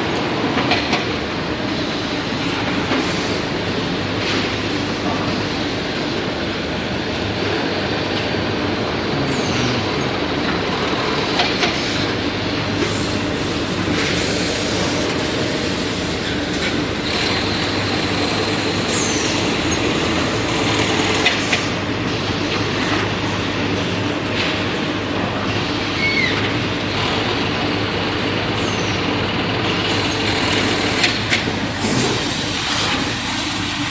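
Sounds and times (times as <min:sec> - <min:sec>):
machinery humming: 0:00.0 - 0:33.9.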